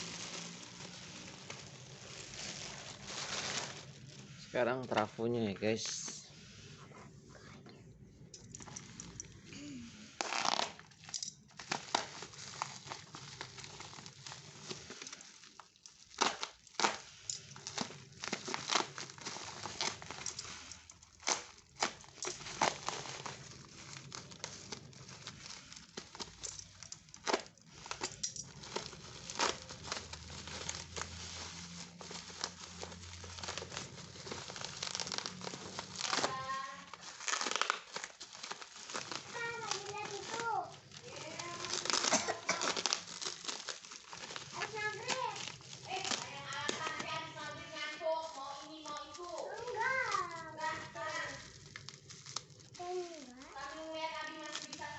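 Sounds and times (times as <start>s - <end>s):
packaging crinkling and tearing: 0.0s - 6.7s, 8.5s - 54.9s.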